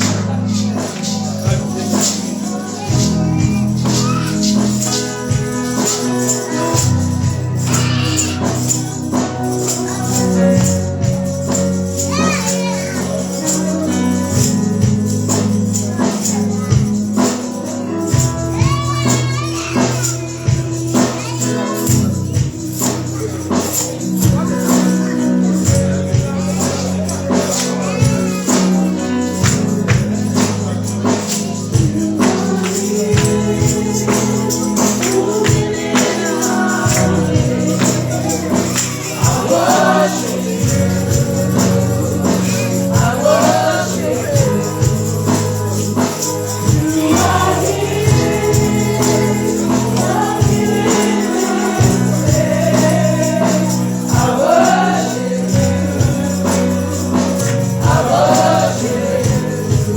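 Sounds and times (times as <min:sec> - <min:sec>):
band playing: 0:00.0 - 0:59.9
congregation singing gospel: 0:00.0 - 0:59.9
tambourine: 0:00.0 - 0:59.9.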